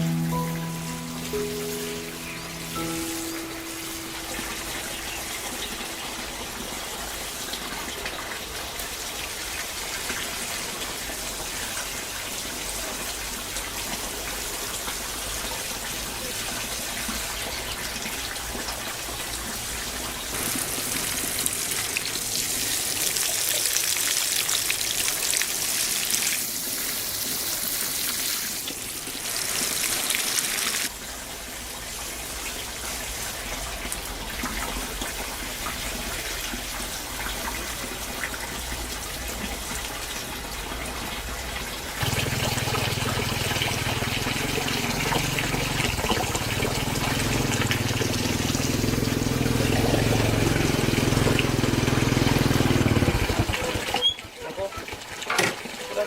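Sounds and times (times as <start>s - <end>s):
water running and splashing: 0.0s - 56.0s.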